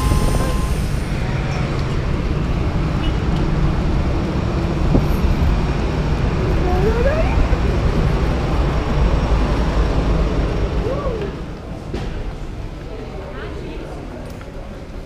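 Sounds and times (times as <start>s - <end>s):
aircraft and vehicles rumbling: 0.0s - 13.1s.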